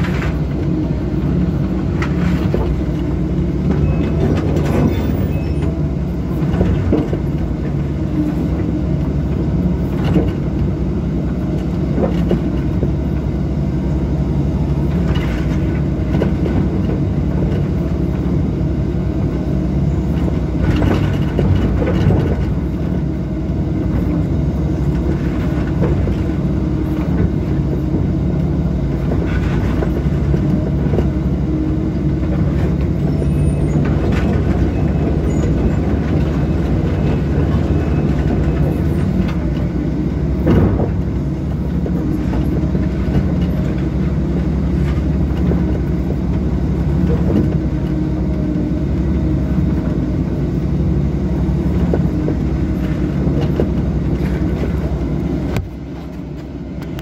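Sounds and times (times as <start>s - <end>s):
excavator diesel hum: 0.0s - 57.0s.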